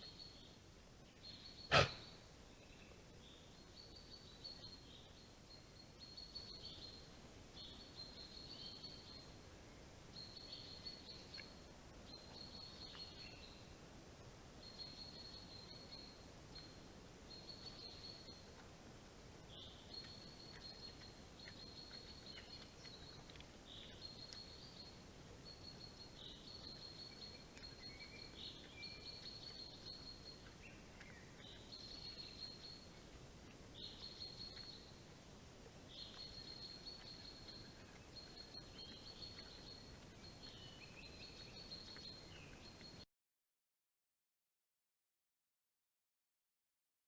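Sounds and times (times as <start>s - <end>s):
songbird chirping: 0.0s - 43.1s.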